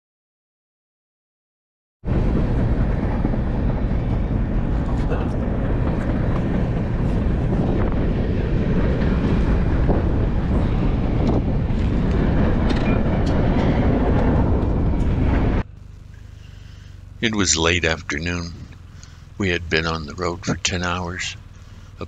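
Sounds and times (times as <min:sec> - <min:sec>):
freight train rumbling past: 0:02.0 - 0:22.0.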